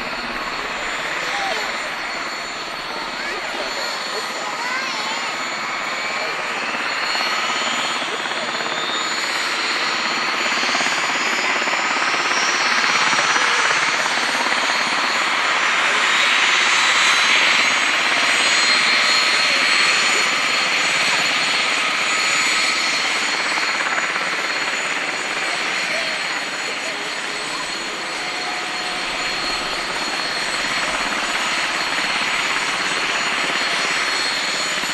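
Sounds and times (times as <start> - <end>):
helicopter rotor chop: 0.0 - 34.9
helicopter turbine whine: 0.0 - 34.9.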